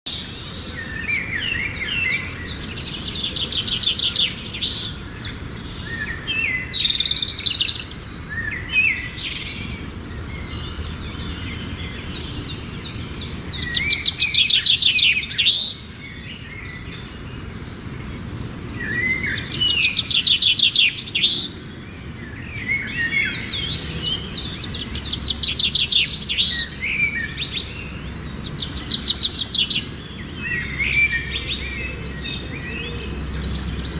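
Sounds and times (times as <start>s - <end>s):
small birds chirping and twittering: 0.0s - 33.9s.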